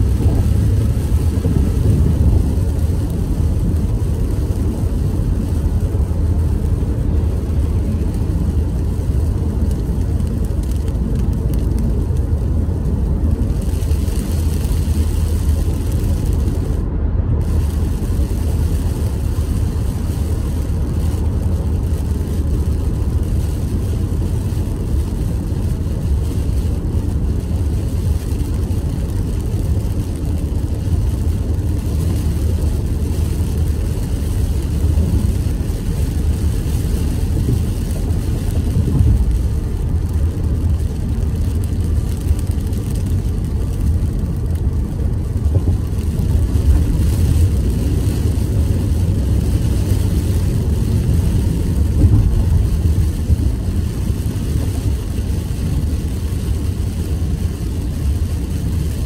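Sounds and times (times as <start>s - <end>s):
car engine and tyre rumble: 0.0s - 59.0s
wet road hiss: 0.0s - 59.0s.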